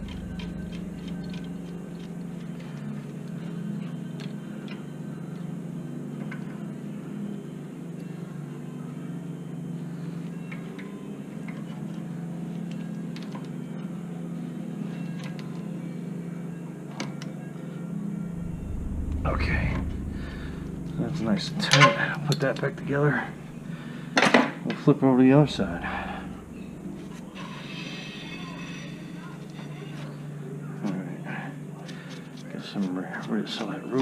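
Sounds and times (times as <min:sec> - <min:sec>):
steady low hum: 0:00.0 - 0:33.2.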